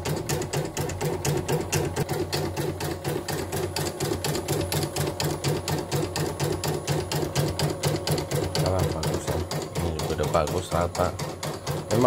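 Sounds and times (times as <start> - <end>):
embroidery machine needle clattering: 0.0 - 12.0.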